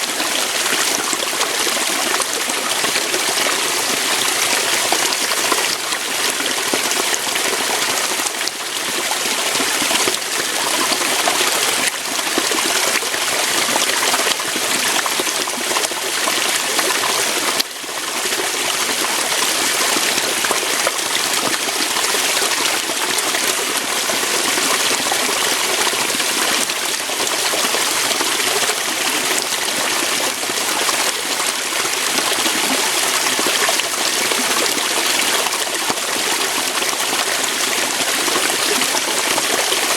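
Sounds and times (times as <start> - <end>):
water pouring over rocks: 0.0 - 39.9.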